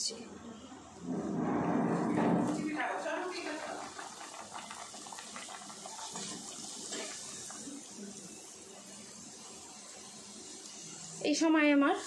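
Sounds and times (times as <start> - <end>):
bread frying in sizzling oil: 2.1 - 12.0.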